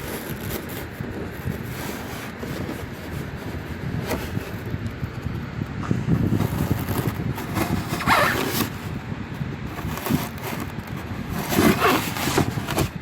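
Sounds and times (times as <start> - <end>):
scraping and ripping styrofoam: 0.0 - 4.6, 6.2 - 8.9, 9.7 - 13.0
steady low rumble: 0.0 - 13.0.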